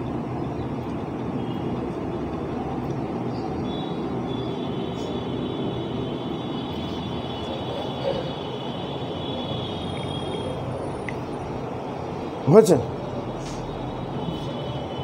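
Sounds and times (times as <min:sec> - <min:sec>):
distant traffic noise: 0:00.0 - 0:15.0.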